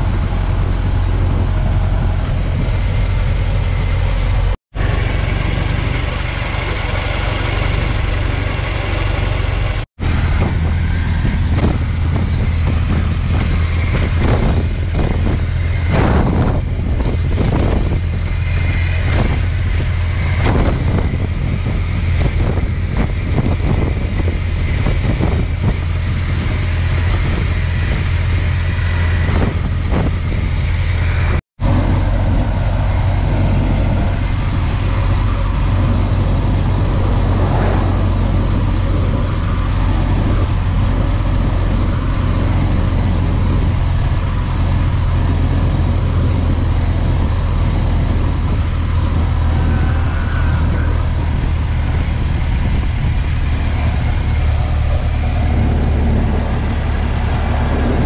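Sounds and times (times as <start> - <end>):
car engine running: 0.0 - 58.0
wind noise: 0.0 - 58.0.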